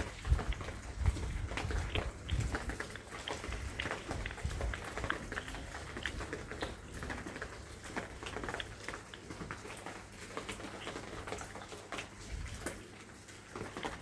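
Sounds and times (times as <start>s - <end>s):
rain drops pattering: 0.0s - 14.0s.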